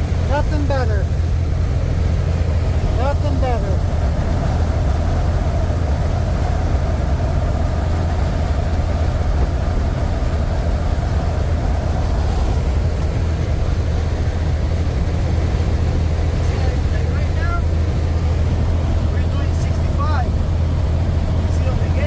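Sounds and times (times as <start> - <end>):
diesel engine drone: 0.0 - 22.0
road noise: 0.0 - 22.0.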